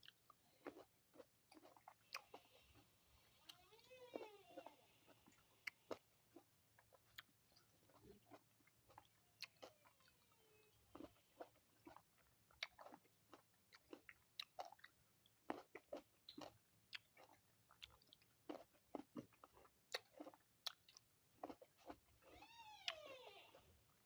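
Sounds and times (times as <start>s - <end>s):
person chewing fruit: 0.0s - 24.0s.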